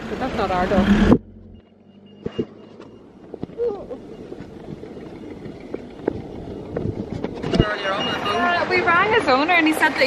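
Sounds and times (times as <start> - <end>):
passing car traffic: 0.0 - 10.0.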